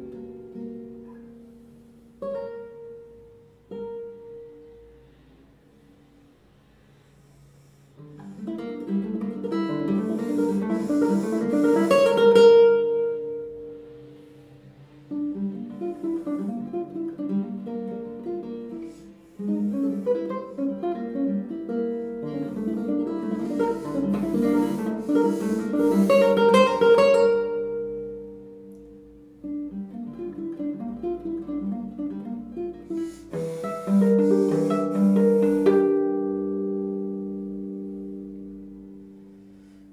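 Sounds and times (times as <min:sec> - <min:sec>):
classical guitar fingerpicking: 0:00.0 - 0:39.9.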